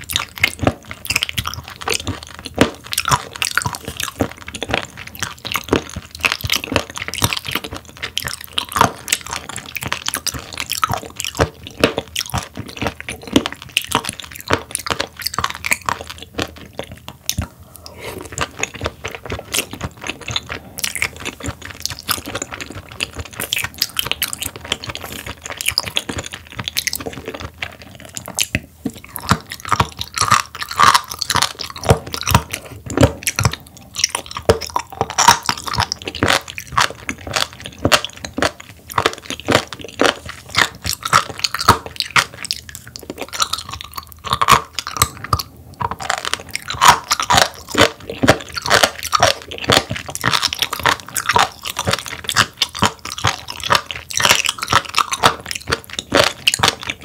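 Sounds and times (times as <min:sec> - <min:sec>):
crisp wet chewing: 0:00.0 - 0:57.0.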